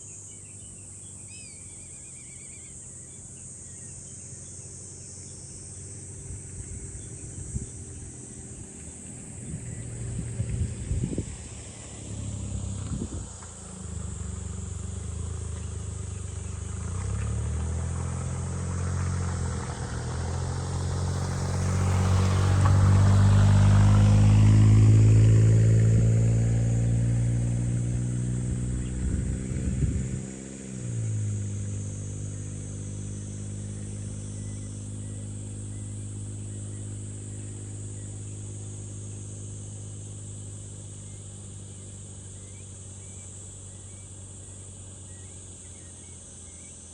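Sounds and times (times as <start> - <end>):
vehicle engine passing: 2.6 - 46.9.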